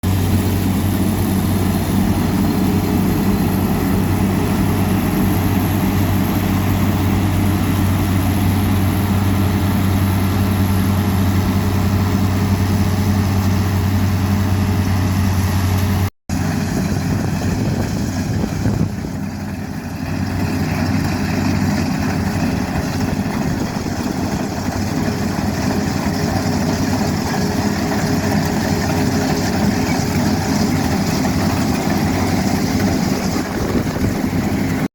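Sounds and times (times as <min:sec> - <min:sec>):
diesel engine humming: 0:00.0 - 0:34.9.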